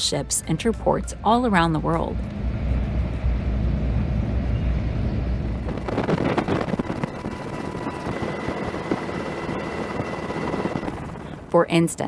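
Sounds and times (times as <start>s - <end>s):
engine rumble: 0.0s - 11.6s
thin steady whine: 0.0s - 12.0s
wind: 0.0s - 12.0s.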